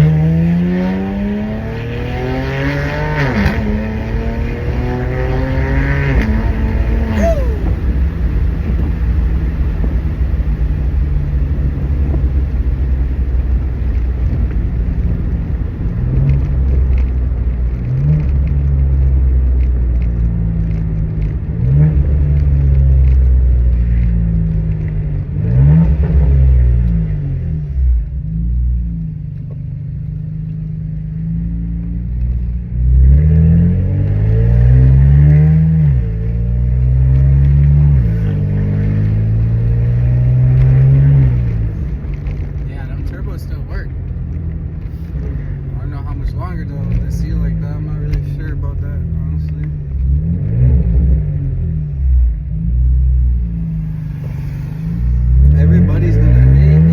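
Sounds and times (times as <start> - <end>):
car engine accelerating hard: 0.0 - 56.9.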